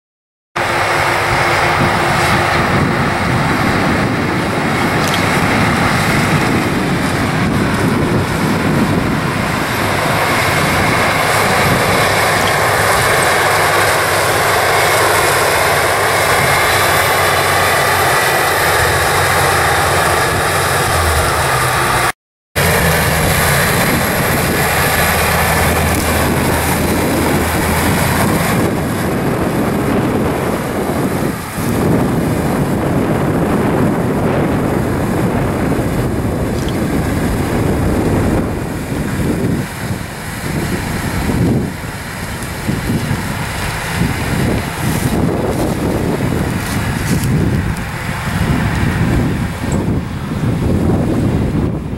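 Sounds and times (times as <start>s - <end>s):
tractor diesel engine under load: 0.6s - 51.9s.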